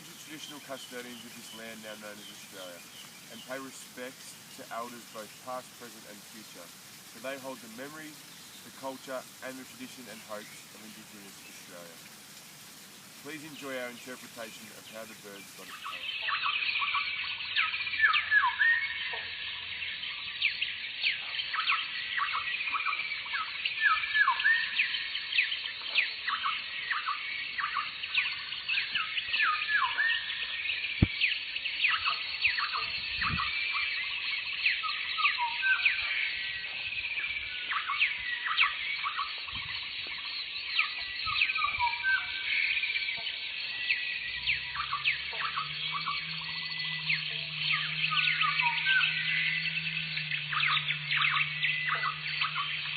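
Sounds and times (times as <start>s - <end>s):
chorus of birds chirping: 0.0s - 52.9s.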